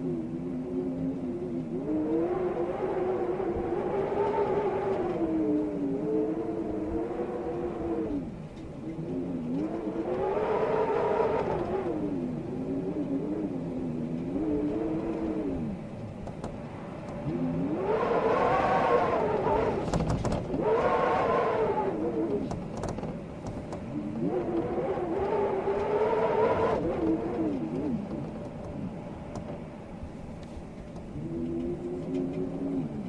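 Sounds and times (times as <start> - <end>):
storm wind howling: 0.0 - 33.0.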